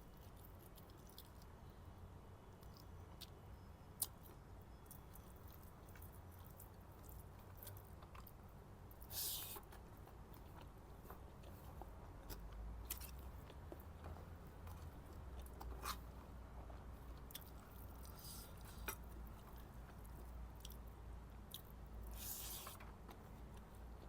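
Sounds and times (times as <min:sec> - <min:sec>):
chewing food: 0:00.0 - 0:01.7, 0:02.6 - 0:03.4, 0:04.0 - 0:24.0.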